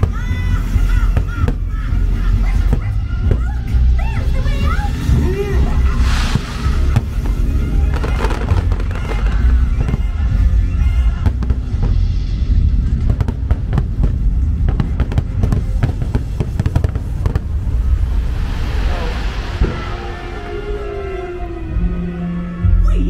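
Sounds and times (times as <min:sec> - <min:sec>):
fireworks bangs and crackles: 0:00.0 - 0:20.5.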